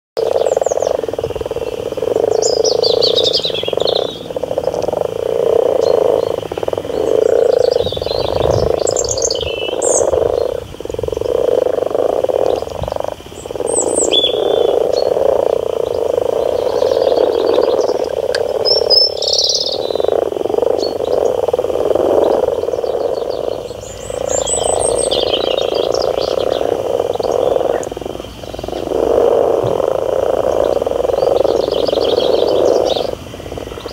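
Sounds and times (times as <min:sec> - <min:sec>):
birds singing: 0:00.2 - 0:33.9
frogs croaking: 0:00.2 - 0:33.9.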